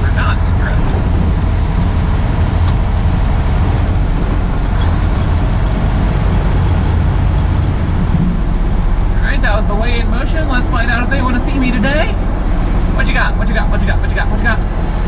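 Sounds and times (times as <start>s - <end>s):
road noise: 0.0s - 15.0s
truck diesel engine drone: 0.0s - 15.0s.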